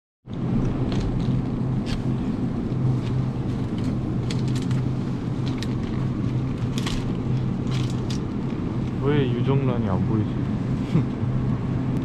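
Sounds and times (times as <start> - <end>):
steady low hum: 0.3 - 12.0.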